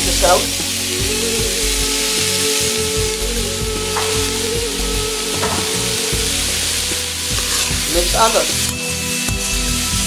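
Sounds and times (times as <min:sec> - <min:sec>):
vegetables sizzling in a wok: 0:00.0 - 0:10.0.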